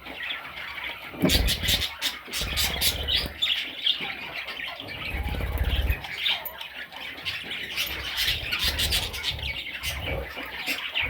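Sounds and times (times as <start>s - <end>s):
budgies squawking and chirping: 0.0s - 11.0s.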